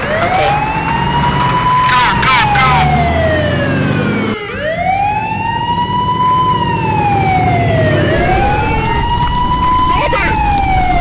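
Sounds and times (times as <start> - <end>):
wailing emergency siren: 0.0 - 11.0.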